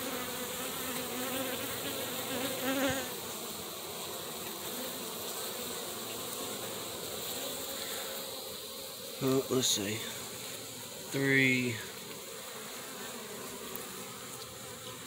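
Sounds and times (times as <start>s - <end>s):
bee buzzing close by: 0.0s - 15.0s
bees humming: 0.0s - 15.0s.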